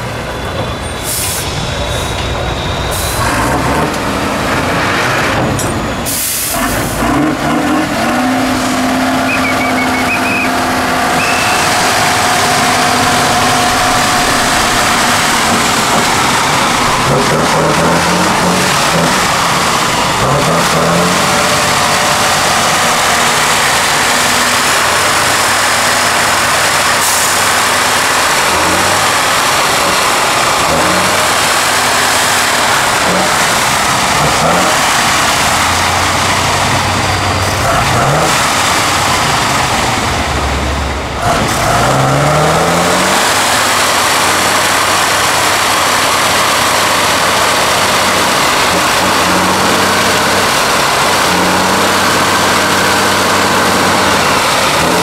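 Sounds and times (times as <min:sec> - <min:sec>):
truck engine revving under load: 0:00.0 - 0:55.0.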